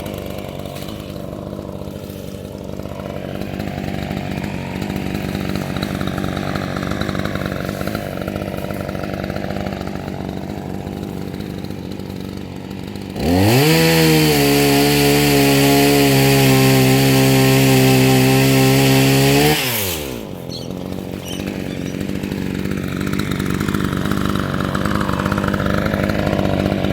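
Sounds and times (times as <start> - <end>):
chainsaw idling and revving: 0.0 - 26.9.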